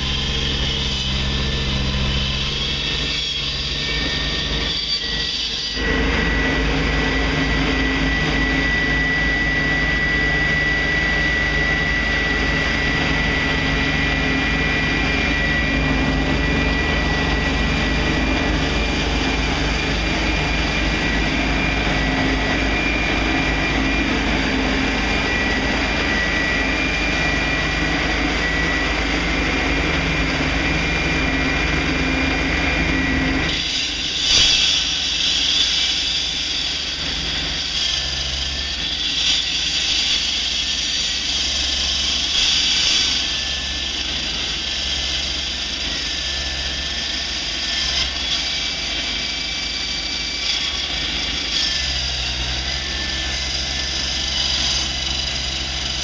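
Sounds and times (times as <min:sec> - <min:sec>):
heavy machinery running: 0:00.0 - 0:56.0
high whine: 0:00.0 - 0:56.0.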